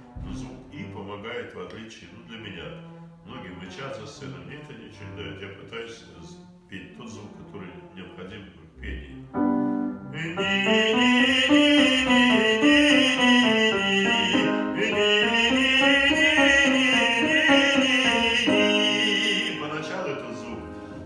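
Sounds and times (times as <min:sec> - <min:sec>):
piano accompaniment: 0:00.0 - 0:21.0
man singing operatic scales: 0:00.2 - 0:20.8.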